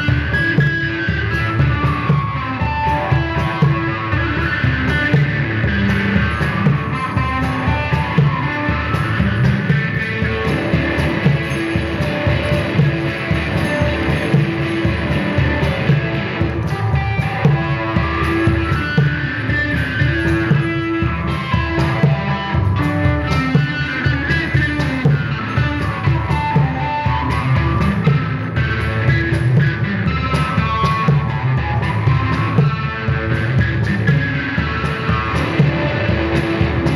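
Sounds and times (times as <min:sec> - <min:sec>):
driving percussion pulse: 0:00.0 - 0:36.9
electric guitar droning melody: 0:00.0 - 0:36.9.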